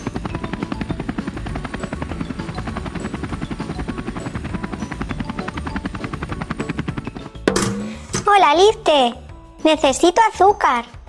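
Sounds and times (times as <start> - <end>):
helicopter rotor chopping: 0.0 - 8.9.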